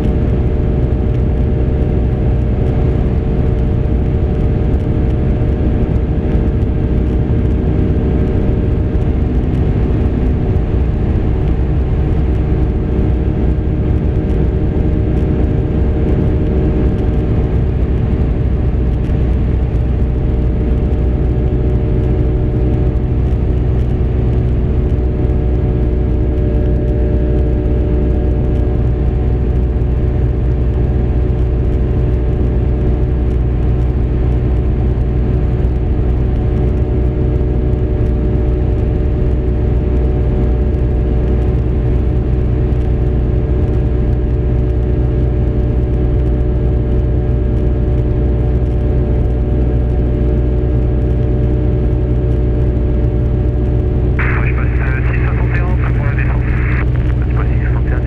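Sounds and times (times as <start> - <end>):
aircraft engine and propeller hum: 0.0 - 58.0.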